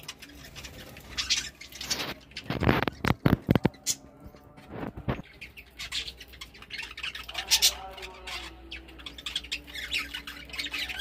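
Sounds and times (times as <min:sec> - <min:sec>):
budgerigars chattering: 0:00.0 - 0:04.0, 0:05.1 - 0:11.0.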